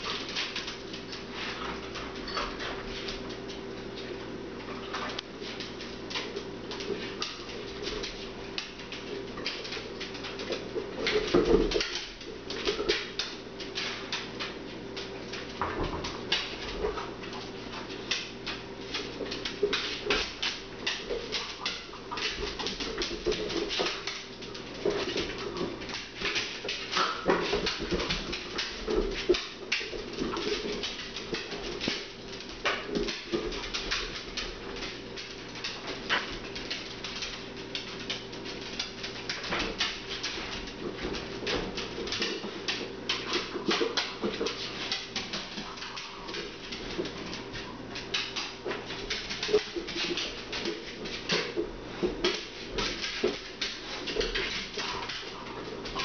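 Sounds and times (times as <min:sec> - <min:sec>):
dog claws clicking on hard floor: 0:00.0 - 0:56.0.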